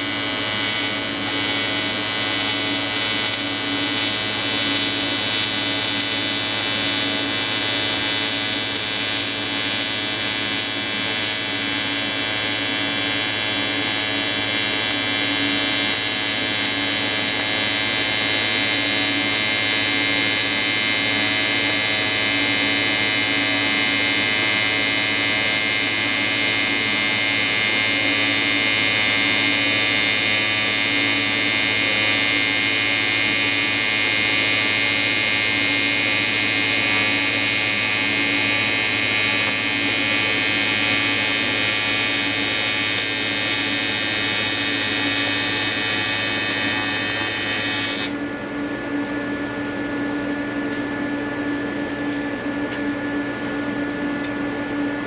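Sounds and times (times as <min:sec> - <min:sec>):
welding arc buzzing: 0:00.0 - 0:48.3.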